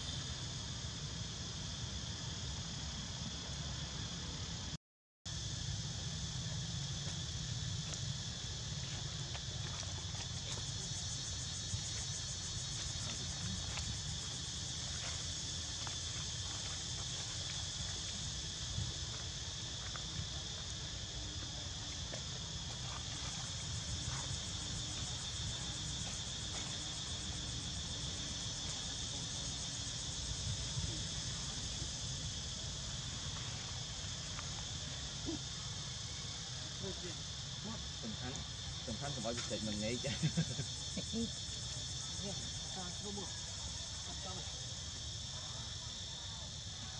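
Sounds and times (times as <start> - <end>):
insects chirring: 0.0 - 4.7, 5.3 - 46.9.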